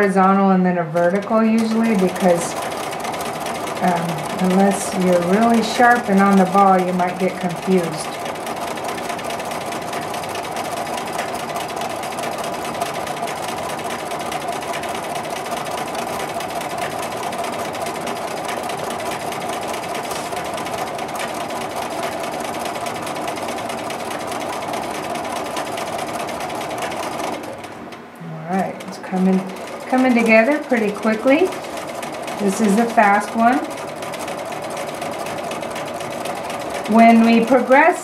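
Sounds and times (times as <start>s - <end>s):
sewing machine running: 0.0s - 38.0s.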